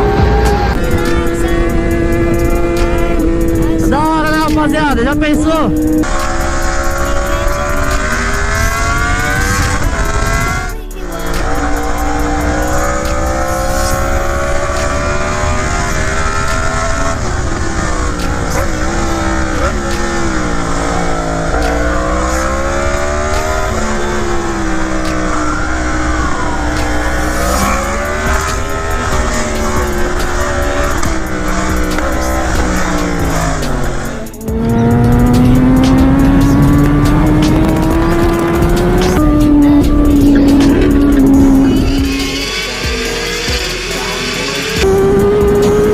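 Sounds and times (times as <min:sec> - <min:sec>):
high-revving vehicle engine: 0:00.0 - 0:45.9.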